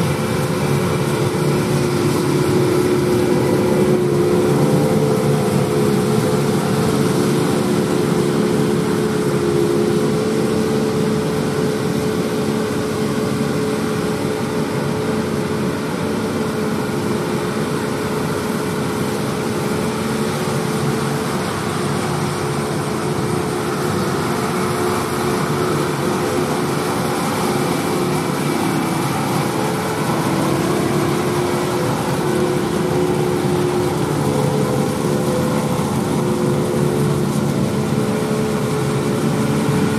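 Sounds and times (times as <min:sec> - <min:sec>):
harvester machinery running: 0:00.0 - 0:39.9
tractor diesel engine drone: 0:00.0 - 0:39.9.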